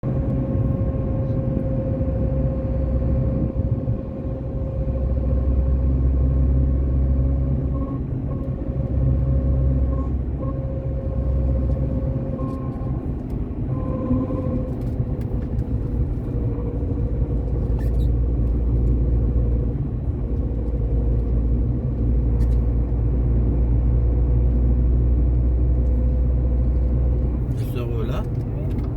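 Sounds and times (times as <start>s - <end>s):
car driving low rumble: 0.0s - 28.9s
constant humming tone: 0.0s - 28.9s.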